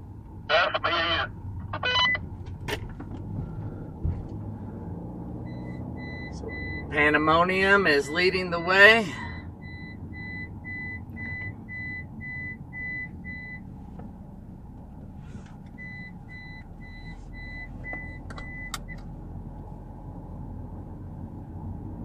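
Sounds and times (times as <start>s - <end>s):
road noise inside van cabin: 0.0s - 22.0s.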